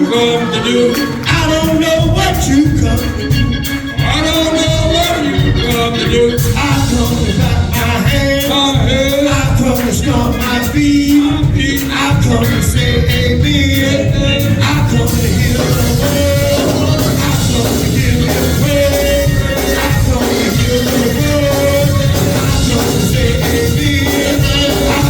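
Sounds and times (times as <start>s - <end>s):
gospel worship music: 0.0s - 25.0s
voices singing: 0.0s - 25.0s.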